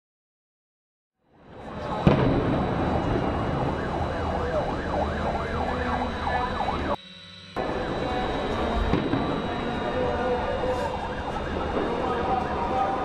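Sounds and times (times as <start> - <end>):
steady din of noise: 1.3 - 13.0
siren yelping: 1.5 - 13.0.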